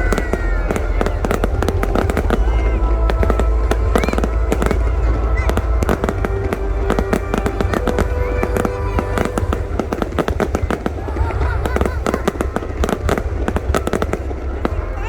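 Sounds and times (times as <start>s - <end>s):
deep rumble: 0.0s - 15.0s
fireworks bangs and crackling: 0.0s - 15.0s.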